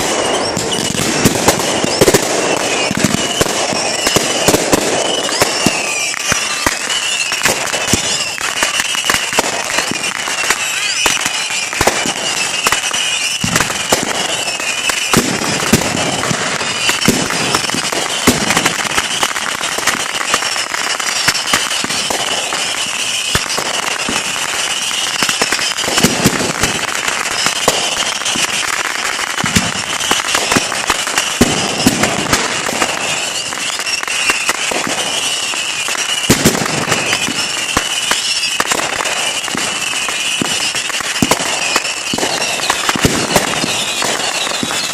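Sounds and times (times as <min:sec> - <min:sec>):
fireworks crackling and popping: 0:00.0 - 0:44.9
heavy firework booms: 0:00.0 - 0:44.9
high-pitched firework hiss: 0:00.0 - 0:44.9.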